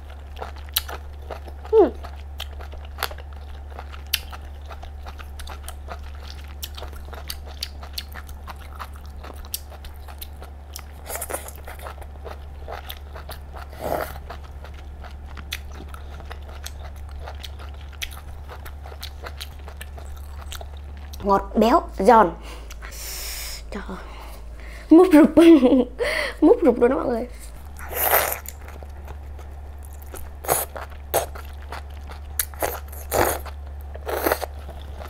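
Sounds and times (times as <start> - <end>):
steady low hum: 0.0 - 35.0
wet mouth chewing sounds: 0.4 - 21.2, 27.5 - 35.0.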